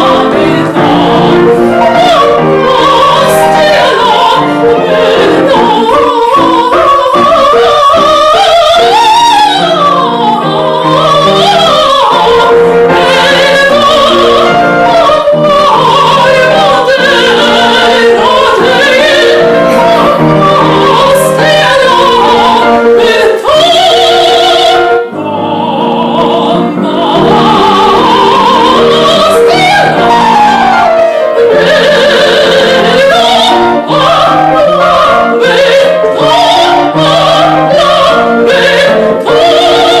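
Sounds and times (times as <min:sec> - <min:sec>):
operatic singing voice: 0:00.0 - 0:40.0
piano accompaniment: 0:00.0 - 0:40.0.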